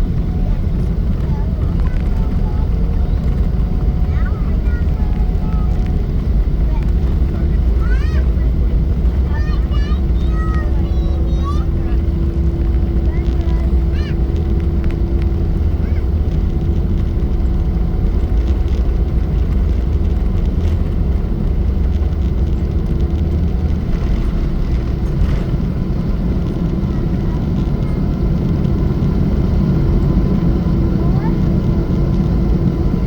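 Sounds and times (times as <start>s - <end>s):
airliner engine rumble: 0.0s - 33.0s
steady hum: 0.0s - 33.0s.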